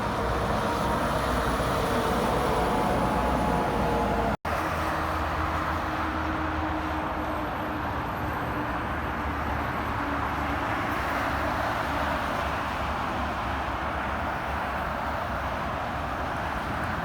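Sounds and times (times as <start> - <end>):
highway traffic rushing: 0.0 - 17.0.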